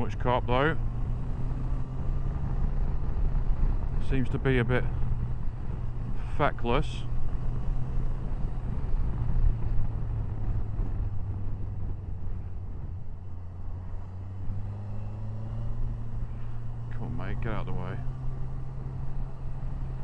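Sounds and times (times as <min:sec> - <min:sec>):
motorcycle engine droning: 0:00.0 - 0:20.0
road rumble: 0:00.0 - 0:20.0
wind: 0:00.0 - 0:20.0.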